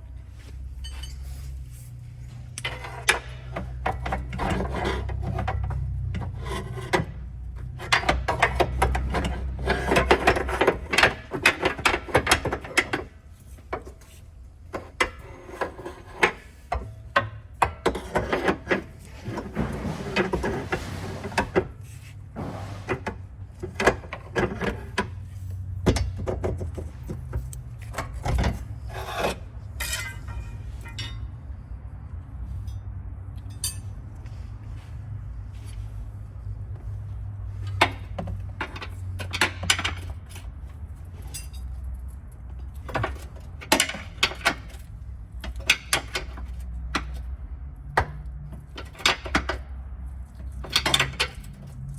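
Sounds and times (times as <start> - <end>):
metal parts scraping and knocking: 0.8 - 31.4, 37.5 - 47.4, 48.0 - 51.9.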